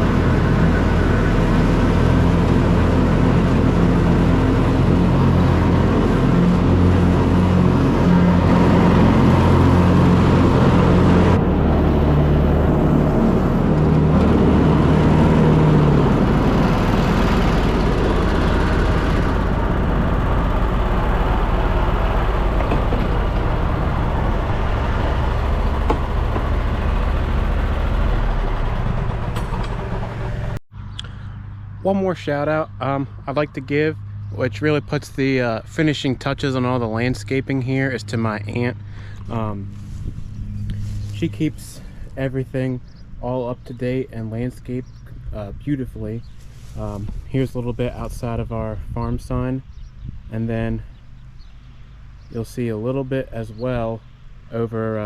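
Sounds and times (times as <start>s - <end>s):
lawn mower engine running: 0.0s - 52.6s.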